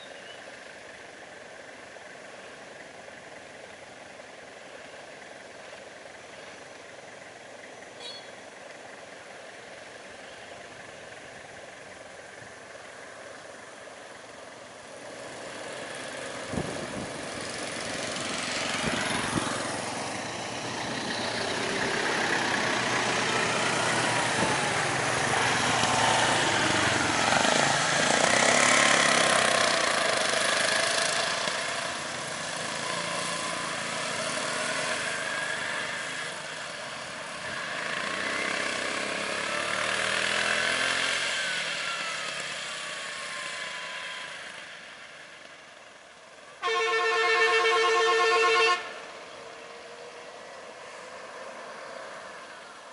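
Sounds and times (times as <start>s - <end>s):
vehicle engines idling and revving: 0.0s - 52.9s.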